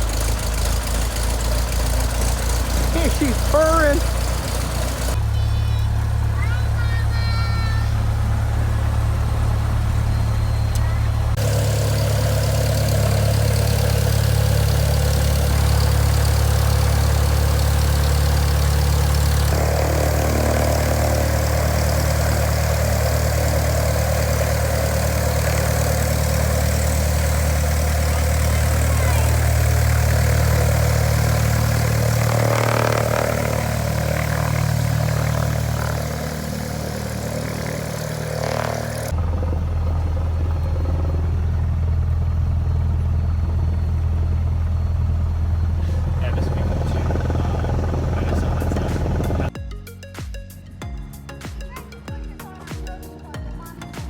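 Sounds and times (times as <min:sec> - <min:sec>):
propeller plane engine running: 0:00.0 - 0:49.6.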